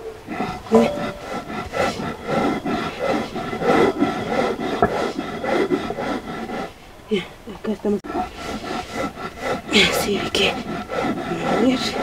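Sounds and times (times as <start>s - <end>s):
stone grinding grain: 0.3s - 6.7s, 8.0s - 12.0s.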